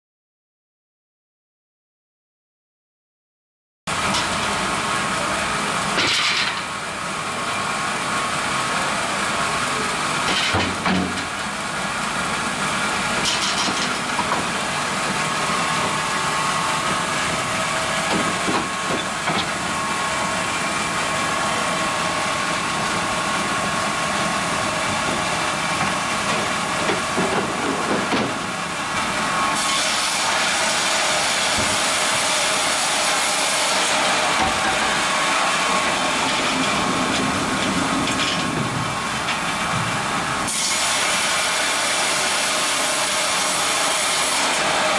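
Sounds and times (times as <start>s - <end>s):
knocks from log conveyors: 3.9s - 7.7s, 9.1s - 44.9s
band sawmill running: 3.9s - 44.9s.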